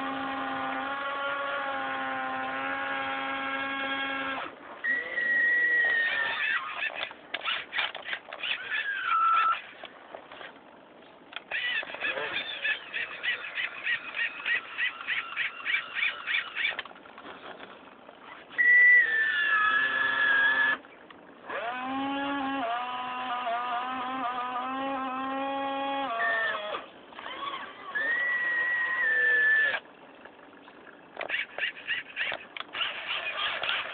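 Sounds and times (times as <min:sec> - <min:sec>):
electric motors whining: 0:00.0 - 0:10.5, 0:11.3 - 0:17.6, 0:18.2 - 0:30.5, 0:31.2 - 0:33.9.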